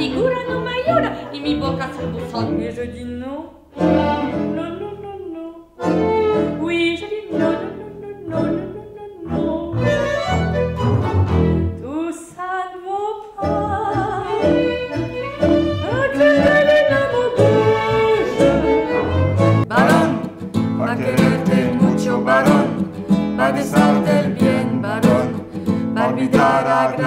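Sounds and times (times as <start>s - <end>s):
instrumental tango ensemble: 0.0s - 12.3s, 13.2s - 27.0s.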